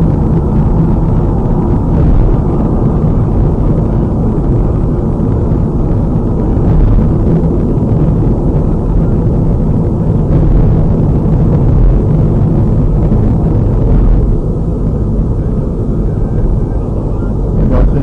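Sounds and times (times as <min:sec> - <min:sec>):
car cabin tyre and engine rumble: 0:00.0 - 0:18.0.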